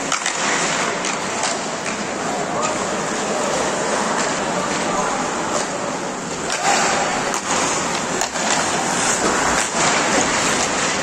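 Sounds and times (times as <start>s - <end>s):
hockey sticks and puck clicks: 0.0s - 11.0s
skate blades scraping ice: 0.0s - 11.0s.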